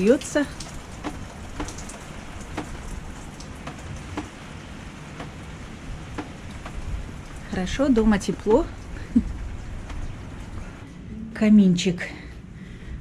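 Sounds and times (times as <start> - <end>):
rain pouring: 0.0 - 13.0.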